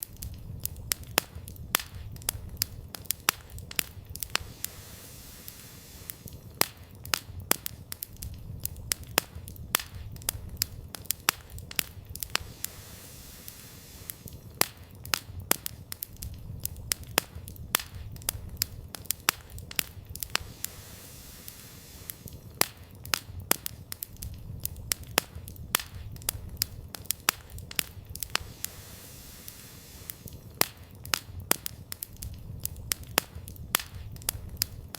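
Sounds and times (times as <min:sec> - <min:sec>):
campfire logs crackling: 0:00.0 - 0:34.9
low fire rumble: 0:00.0 - 0:34.9.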